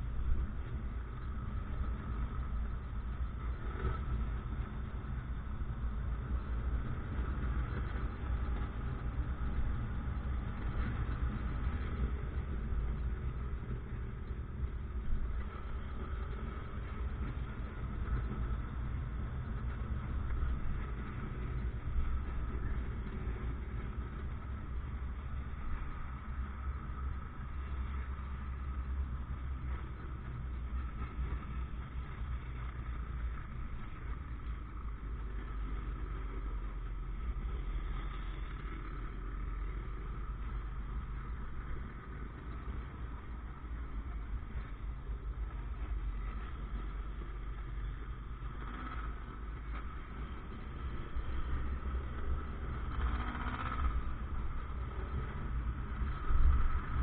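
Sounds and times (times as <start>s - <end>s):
motorcycle rumbling: 0.0s - 57.0s.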